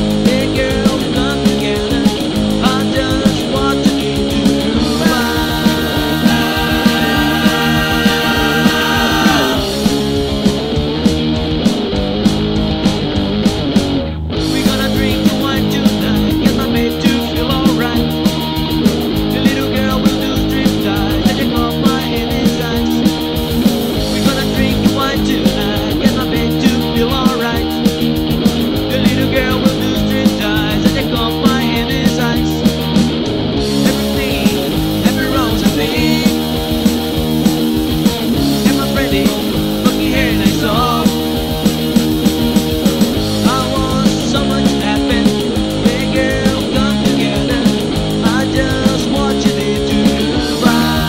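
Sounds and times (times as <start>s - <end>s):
loud rock music: 0.0s - 51.0s.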